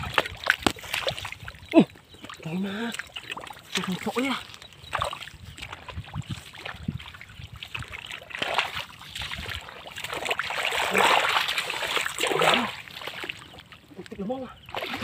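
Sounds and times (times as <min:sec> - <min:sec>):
hands splashing in muddy water: 0:00.0 - 0:13.6, 0:14.7 - 0:15.0.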